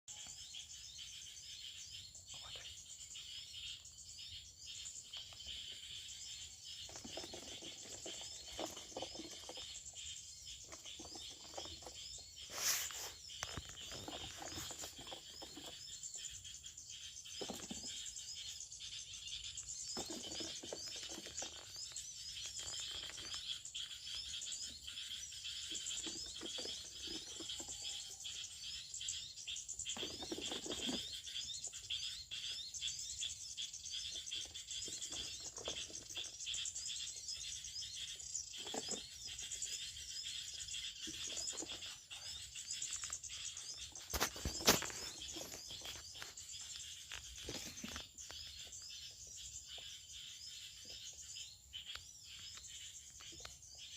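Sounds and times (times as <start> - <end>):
bird chirps: 0.0 - 53.9
insect chorus: 0.1 - 53.9.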